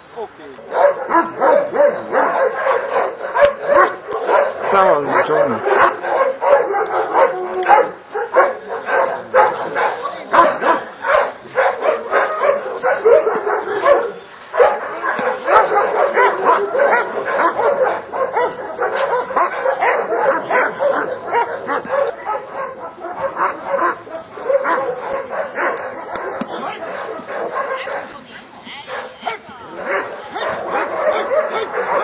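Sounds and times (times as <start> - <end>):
dog barking rapidly: 0.7 - 28.1, 28.9 - 32.0.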